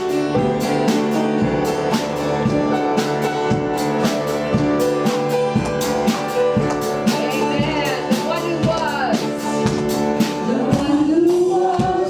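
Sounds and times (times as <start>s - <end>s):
drum kit beat: 0.0s - 12.0s
guitar: 0.0s - 12.0s.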